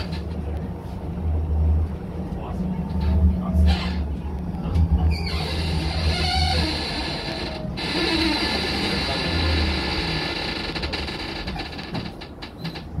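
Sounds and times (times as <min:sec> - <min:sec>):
tram drive hum: 0:00.0 - 0:13.0.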